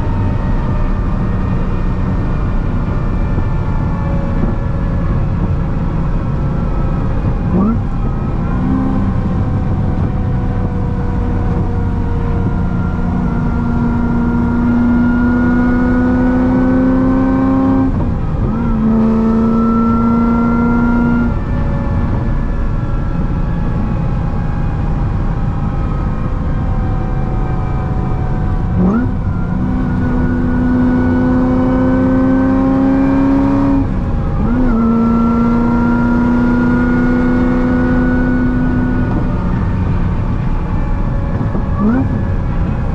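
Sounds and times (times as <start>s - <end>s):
supercharged car engine at speed: 0.0s - 42.9s.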